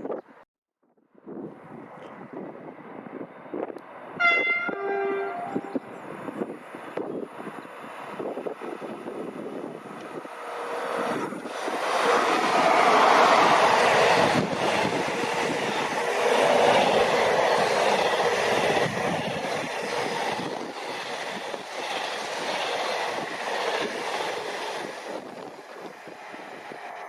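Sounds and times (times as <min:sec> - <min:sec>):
train wheels on rails: 0:03.6 - 0:27.0.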